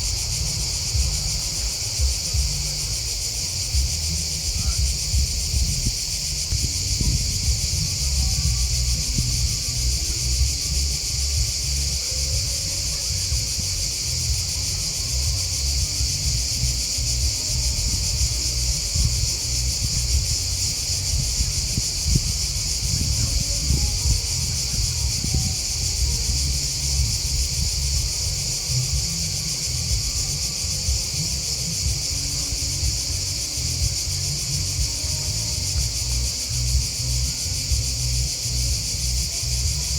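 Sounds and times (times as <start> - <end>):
grasshoppers and crickets chirping: 0.0 - 39.9
low uneven rumble: 0.0 - 39.9.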